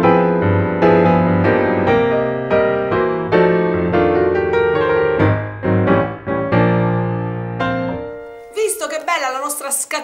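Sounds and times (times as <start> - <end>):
piano music: 0.0 - 9.7.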